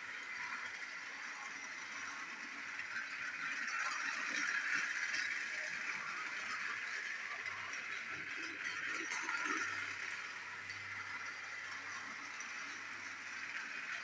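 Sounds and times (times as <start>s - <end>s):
toy train motor whirring: 0.0s - 14.0s.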